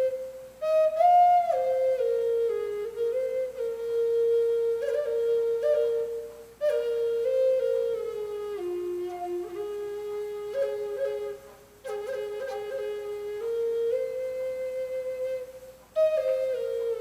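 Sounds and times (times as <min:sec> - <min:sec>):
wooden flute melody: 0:00.0 - 0:17.0.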